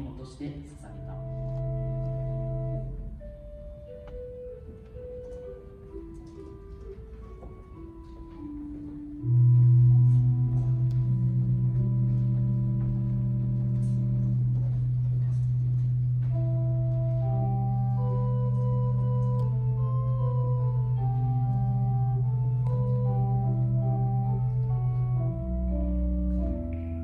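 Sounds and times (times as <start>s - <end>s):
low organ-like held note: 0.8s - 27.0s.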